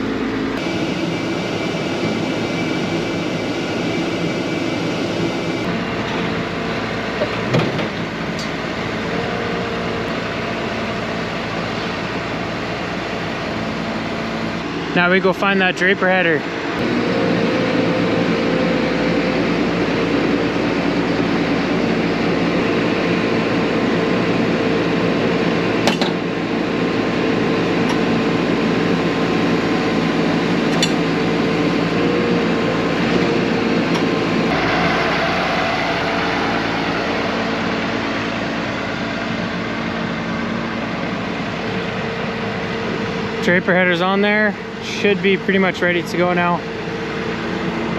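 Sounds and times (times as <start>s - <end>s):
diesel engine running: 0.0s - 47.9s
fan hum: 0.0s - 47.9s.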